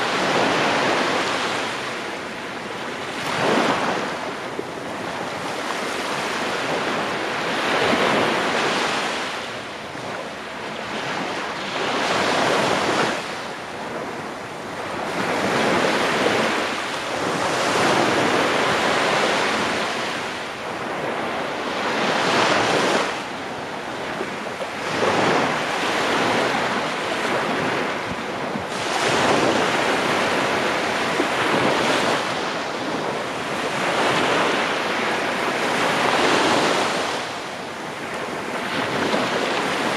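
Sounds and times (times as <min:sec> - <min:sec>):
waves washing on sandy shore: 0:00.0 - 0:39.9.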